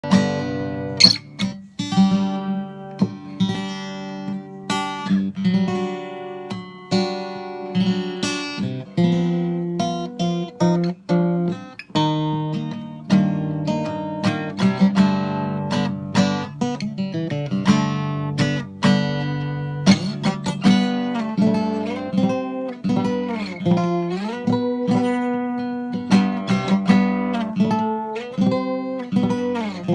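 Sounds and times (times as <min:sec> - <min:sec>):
acoustic guitar playing: 0:00.0 - 0:29.9.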